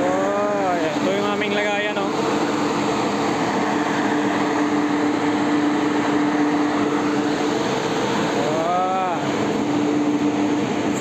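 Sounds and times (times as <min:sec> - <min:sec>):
ship machinery drone: 0:00.0 - 0:11.0.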